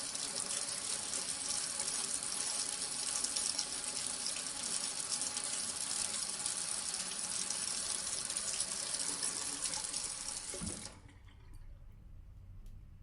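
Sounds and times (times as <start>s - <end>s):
faucet running into sink: 0.0s - 11.8s.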